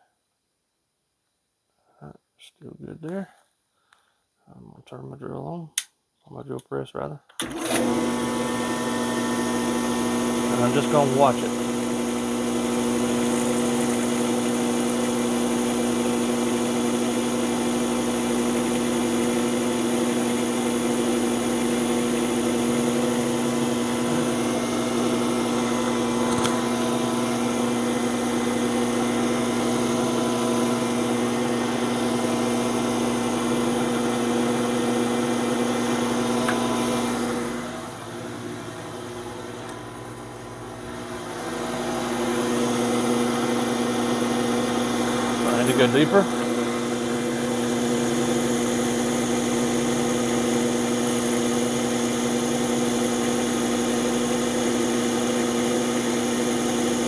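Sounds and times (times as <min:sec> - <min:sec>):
drill press motor humming: 0:07.4 - 0:57.0.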